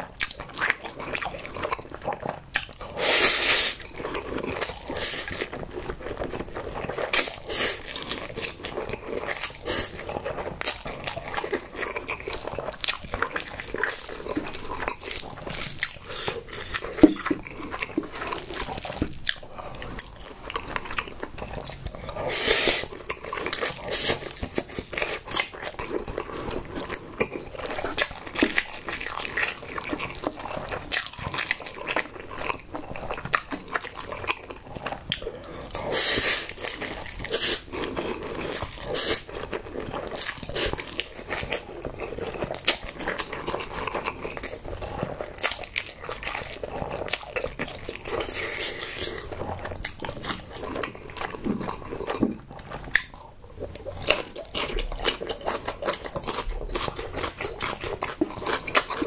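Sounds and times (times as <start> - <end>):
noodles slurped: 0.0 - 59.0
wet chewing and mouth smacking: 0.0 - 59.0.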